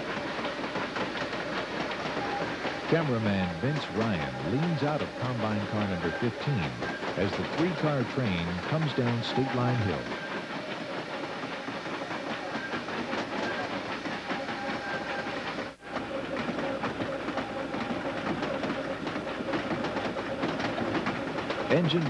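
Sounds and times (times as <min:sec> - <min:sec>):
steam train rumble and hiss: 0:00.0 - 0:22.0
wheels clicking over rail joints: 0:00.0 - 0:22.0.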